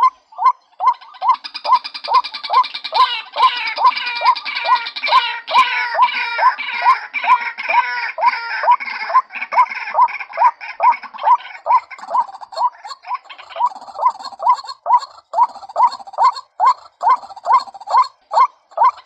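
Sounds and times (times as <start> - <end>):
harsh high bird chatter: 0.0 - 19.0.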